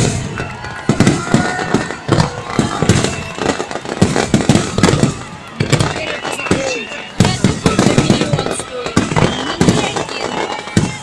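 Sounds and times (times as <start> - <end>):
firework crackling: 0.0 - 11.0
firework shells bursting: 0.0 - 11.0
firework whistles: 0.0 - 11.0.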